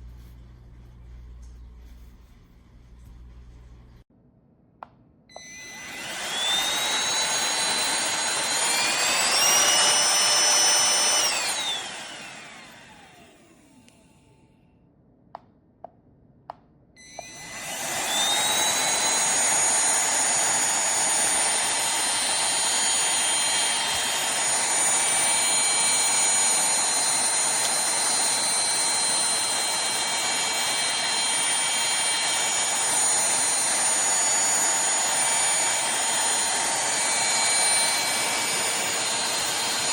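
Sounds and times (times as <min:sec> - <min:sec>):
handheld vacuum motor whining: 0:05.3 - 0:14.4, 0:17.0 - 0:39.9.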